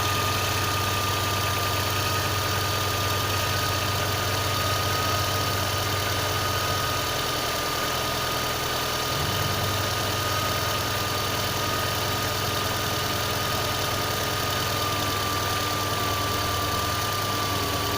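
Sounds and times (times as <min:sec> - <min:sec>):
car engine idling with knock: 0:00.0 - 0:17.9.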